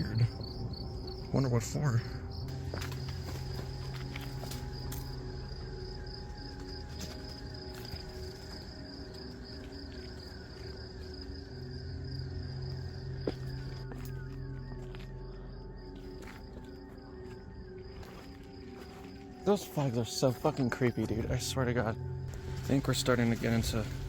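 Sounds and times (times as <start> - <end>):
high insect-like trill: 0.0 - 19.6.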